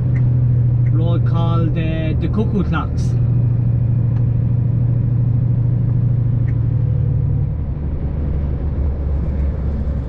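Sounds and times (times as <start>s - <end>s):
engine and road drone: 0.0s - 10.0s.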